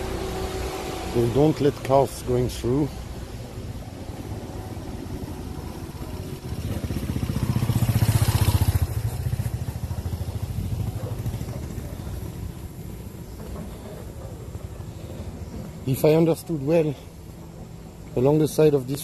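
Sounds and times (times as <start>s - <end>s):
small motorcycle passing: 0.0s - 17.8s.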